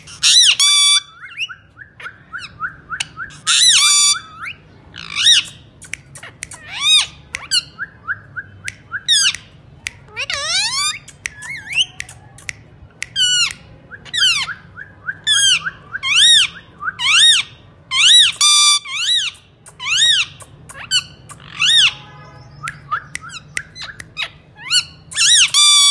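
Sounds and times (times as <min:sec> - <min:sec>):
parakeet squawking: 0:00.0 - 0:07.8, 0:09.0 - 0:12.2, 0:13.2 - 0:25.9.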